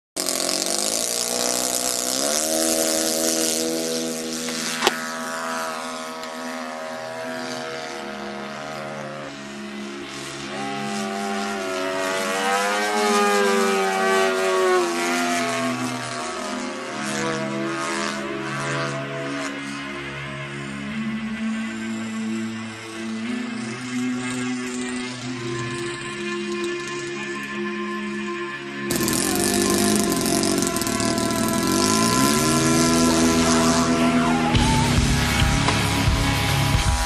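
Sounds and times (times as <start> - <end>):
model plane engine and propeller: 0.2 - 37.0.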